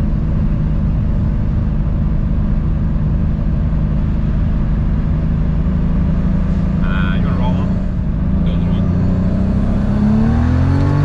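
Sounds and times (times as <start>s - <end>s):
car engine cruising from inside: 0.0s - 11.0s.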